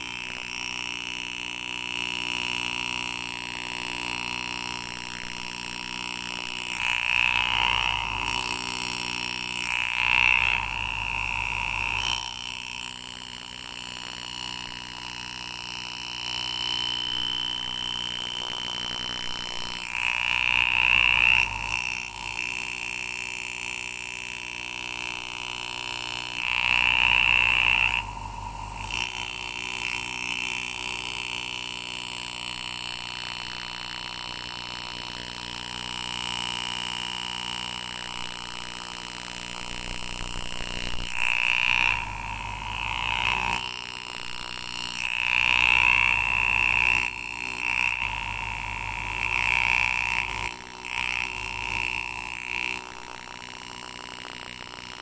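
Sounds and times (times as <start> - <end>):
engraving tool buzzing: 0.0 - 55.0.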